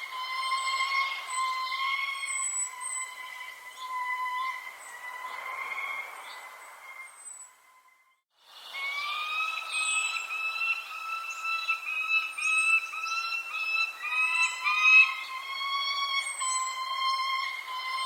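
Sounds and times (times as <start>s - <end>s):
bird high downward chirps: 0.0s - 18.0s
bird singing rising notes: 0.0s - 18.0s.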